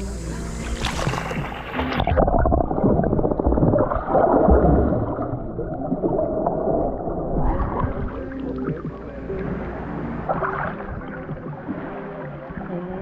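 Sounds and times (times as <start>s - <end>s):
muffled underwater rushing: 0.0s - 13.0s
water splashing: 0.0s - 13.0s.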